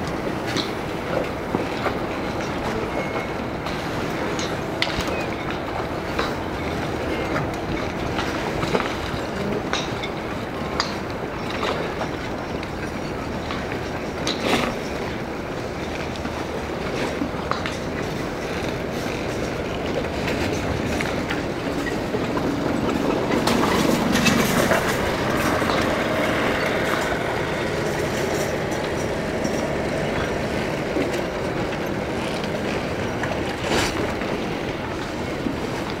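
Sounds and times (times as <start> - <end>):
outdoor rumble and hiss: 0.0 - 36.0.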